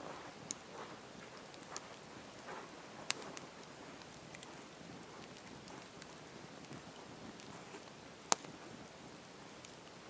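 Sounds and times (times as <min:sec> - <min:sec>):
campfire hissing and crackling: 0:00.0 - 0:10.0.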